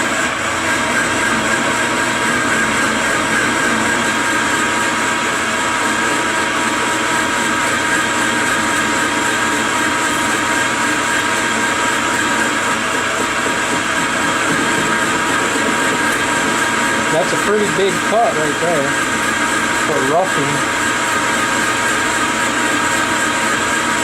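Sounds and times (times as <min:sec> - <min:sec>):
metal lathe cutting with high whine: 0:00.0 - 0:24.0.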